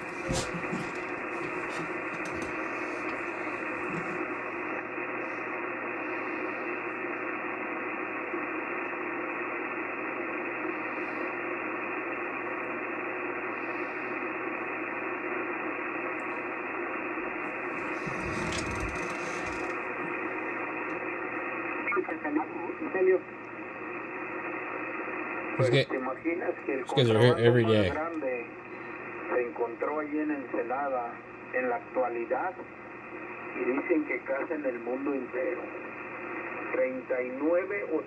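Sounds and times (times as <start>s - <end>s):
radio static hiss: 0.0s - 38.0s.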